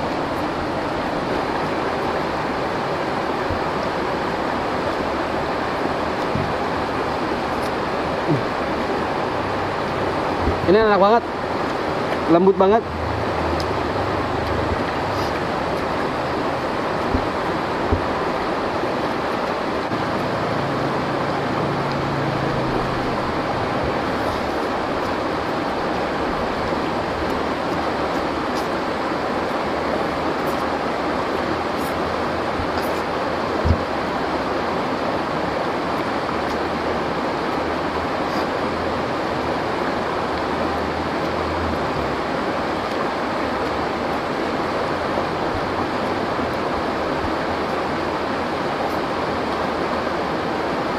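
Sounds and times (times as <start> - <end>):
stream rushing over stones: 0.0 - 50.9.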